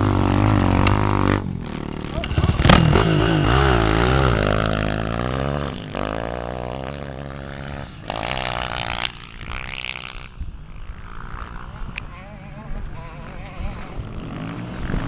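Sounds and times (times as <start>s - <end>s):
off-road engines revving and passing: 0.0s - 15.0s.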